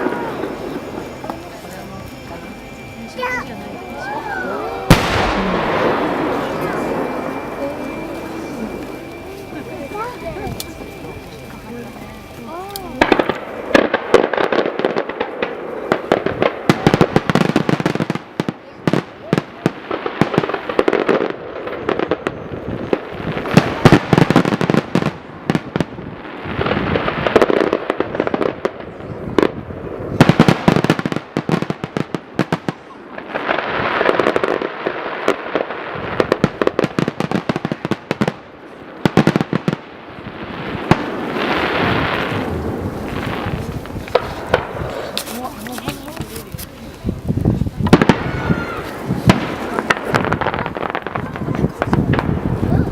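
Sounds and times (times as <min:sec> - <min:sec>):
fireworks bursting and crackling: 0:00.0 - 0:52.9.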